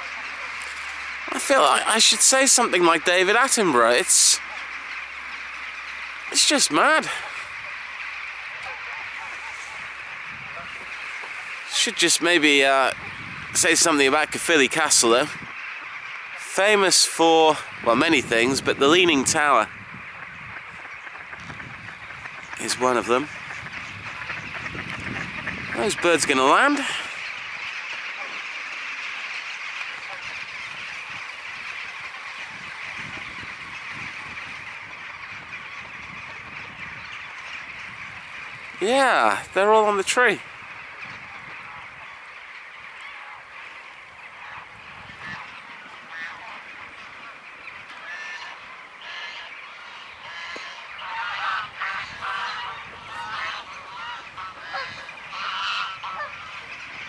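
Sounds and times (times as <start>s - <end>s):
flock of birds chattering: 0.0s - 57.0s
geese honking: 0.0s - 57.0s.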